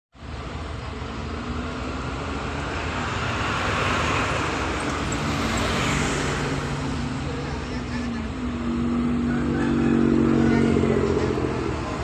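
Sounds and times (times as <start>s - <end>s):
diesel engine running: 0.2s - 12.0s.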